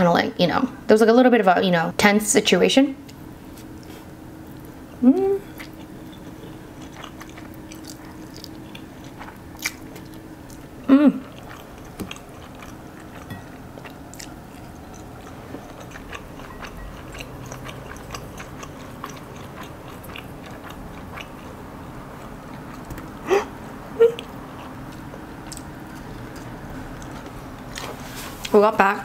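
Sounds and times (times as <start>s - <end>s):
person chewing spaghetti: 3.1s - 28.5s.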